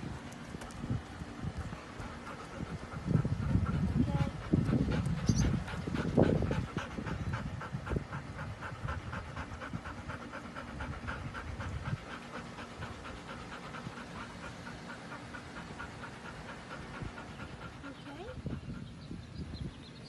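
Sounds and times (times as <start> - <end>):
dog panting fast: 0.6 - 19.4.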